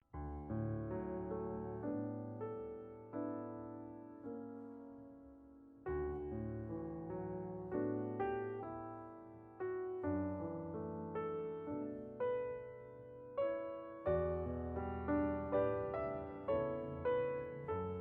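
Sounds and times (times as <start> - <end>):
gentle piano notes: 0.1 - 18.0.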